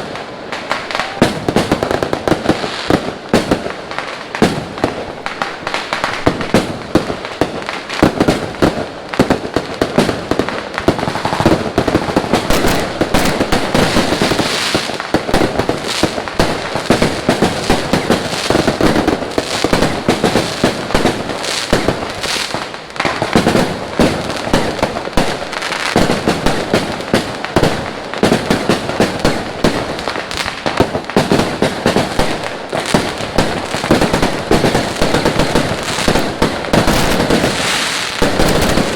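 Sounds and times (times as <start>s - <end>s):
fireworks barrage banging and crackling: 0.0s - 38.9s.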